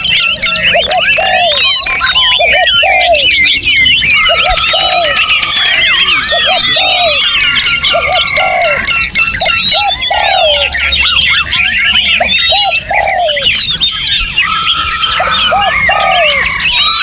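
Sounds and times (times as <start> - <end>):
low cooing notes: 0.0 - 13.6, 14.3 - 17.0
chorus of songbirds singing: 0.0 - 17.0
fast high bird trill: 0.0 - 17.0.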